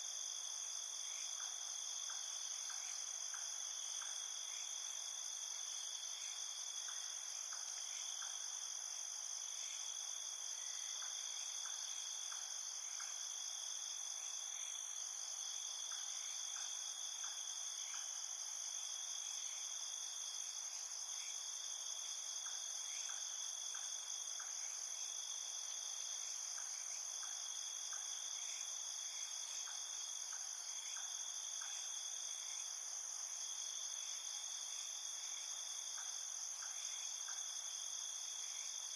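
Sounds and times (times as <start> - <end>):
faint insect chirps: 0.0 - 38.9.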